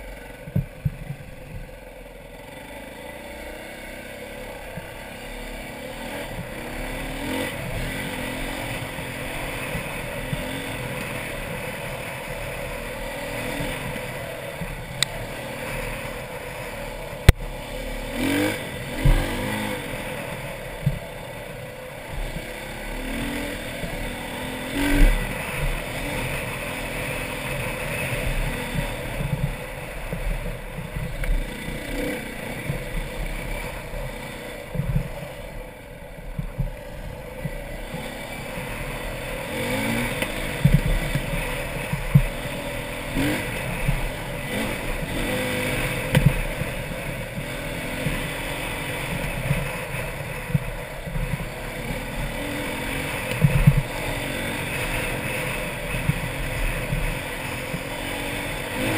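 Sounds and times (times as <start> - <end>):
dirt bike engine revving: 2.0 - 58.9.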